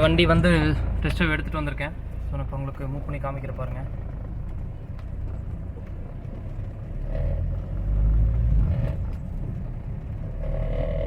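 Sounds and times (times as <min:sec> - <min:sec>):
diesel car engine drone: 0:00.0 - 0:11.0.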